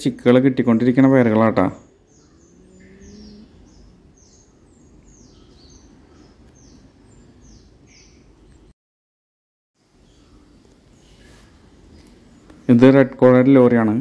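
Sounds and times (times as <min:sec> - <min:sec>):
cage birds chirping: 0:00.0 - 0:08.7, 0:09.8 - 0:14.0.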